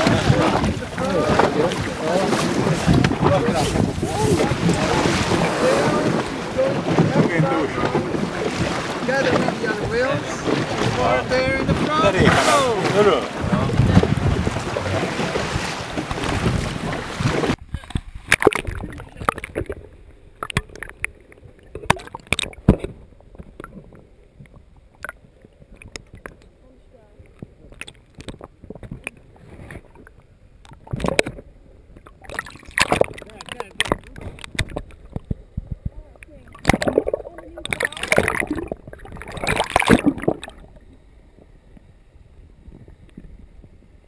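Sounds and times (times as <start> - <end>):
muffled underwater sloshing: 0.0 - 44.0.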